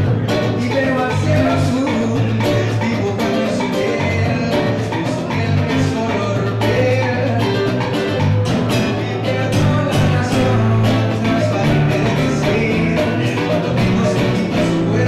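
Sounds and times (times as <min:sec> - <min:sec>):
low bass notes: 0:00.0 - 0:15.0
man singing: 0:00.0 - 0:15.0
nylon-string guitar strummed: 0:00.0 - 0:15.0.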